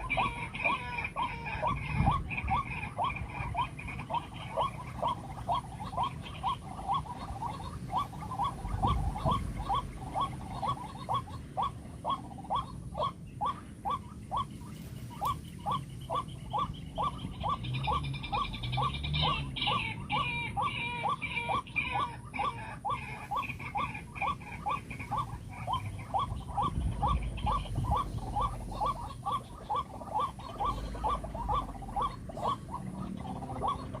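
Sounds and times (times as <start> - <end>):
waterhen calling: 0.0 - 34.0.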